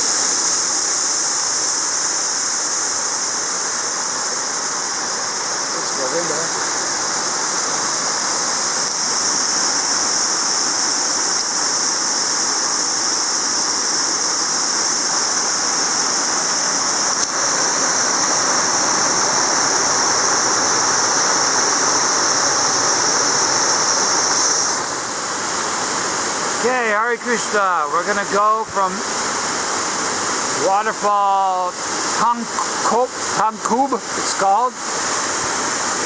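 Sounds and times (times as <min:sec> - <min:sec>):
high-pitched hiss: 0:00.0 - 0:36.0
waterfall rushing: 0:00.0 - 0:36.0.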